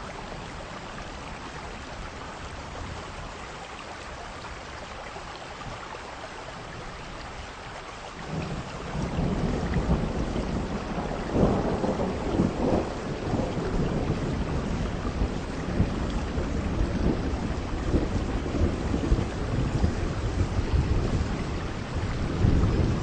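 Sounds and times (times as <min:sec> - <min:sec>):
heavy rain: 0:00.0 - 0:23.0
wind: 0:00.0 - 0:23.0.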